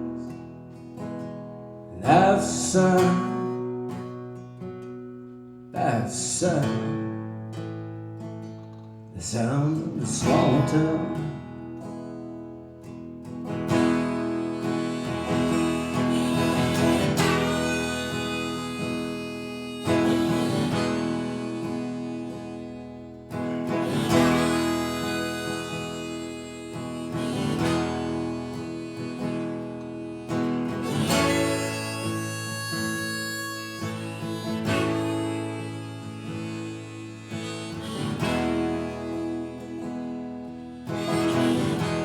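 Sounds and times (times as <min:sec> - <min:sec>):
acoustic guitar strumming chords: 0:00.0 - 0:42.0.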